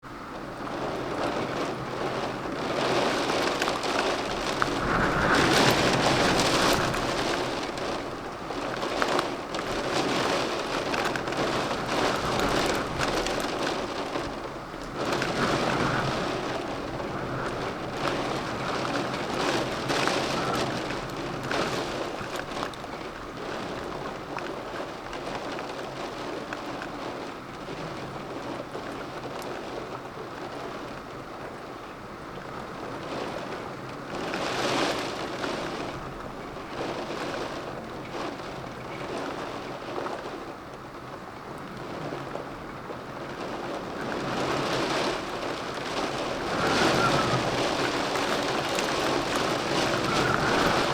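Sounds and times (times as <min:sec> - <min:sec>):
heavy rain falling: 0:00.1 - 0:50.9.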